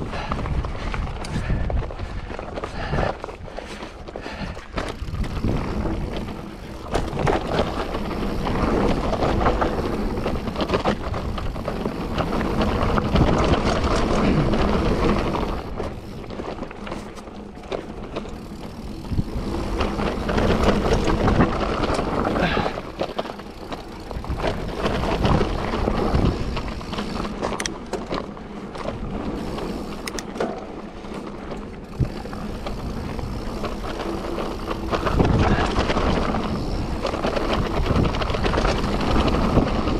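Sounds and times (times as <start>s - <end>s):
bike knocking and rattling: 0.0s - 39.9s
bike tyres rushing on trail: 0.0s - 39.9s.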